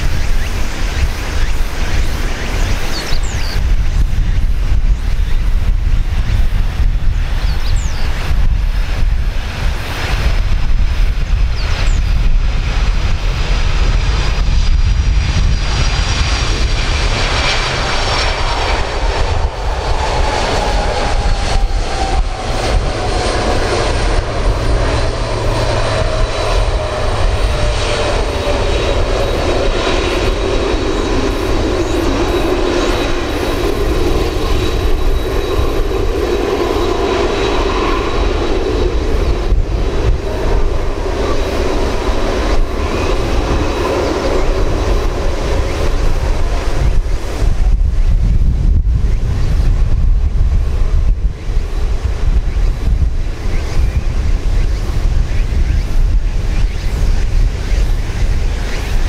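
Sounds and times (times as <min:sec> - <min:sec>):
jet airliner engines rumbling: 0:00.0 - 0:59.0.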